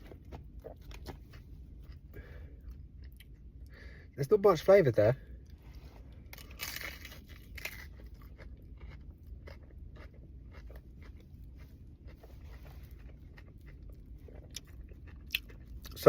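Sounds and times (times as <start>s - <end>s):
chewing crispy food: 0.0s - 3.7s, 5.4s - 16.0s.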